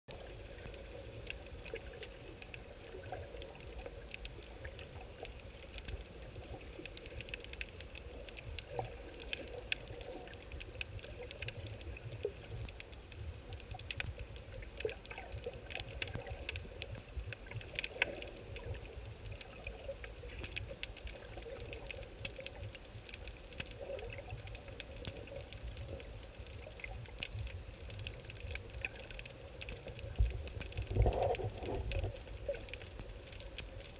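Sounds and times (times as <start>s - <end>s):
faint clicking and crackling: 0.1s - 33.9s
underwater rumble of moving water: 0.1s - 33.9s.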